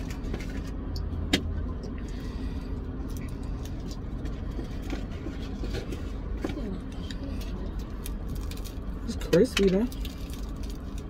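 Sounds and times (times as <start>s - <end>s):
car idling inside cabin: 0.0s - 11.0s.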